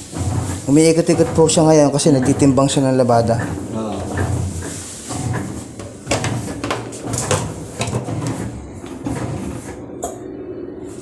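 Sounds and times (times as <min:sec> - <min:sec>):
low motor hum: 0:00.0 - 0:11.0
washing machine drum turning: 0:00.0 - 0:11.0.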